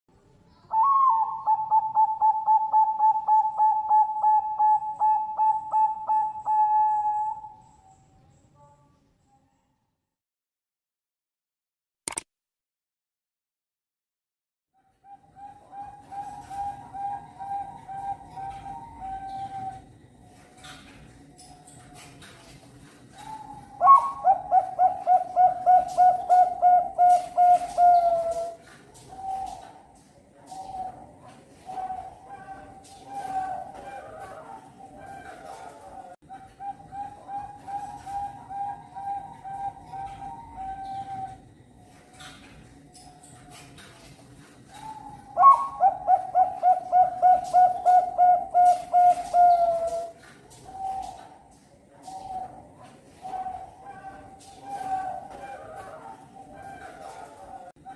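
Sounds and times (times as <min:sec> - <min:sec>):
dove cooing: 0:00.7 - 0:07.8, 0:15.0 - 0:22.1, 0:22.7 - 0:42.7, 0:43.3 - 0:57.9.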